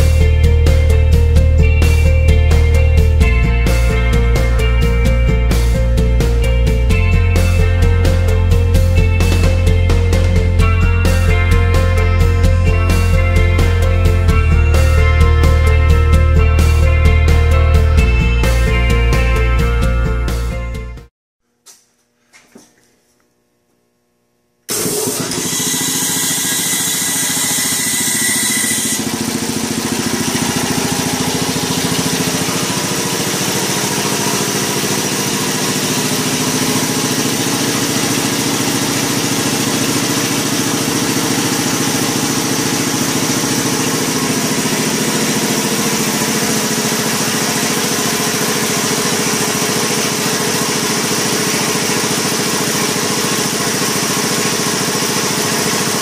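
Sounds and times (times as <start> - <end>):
air compressor running: 0.0 - 20.4, 24.7 - 56.0.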